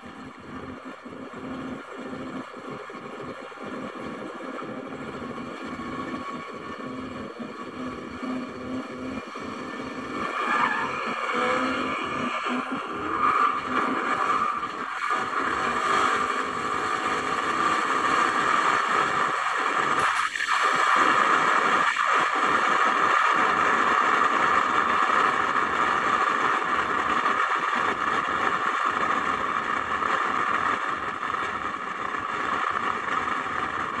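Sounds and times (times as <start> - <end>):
drag racing car engines: 0.0 - 34.0.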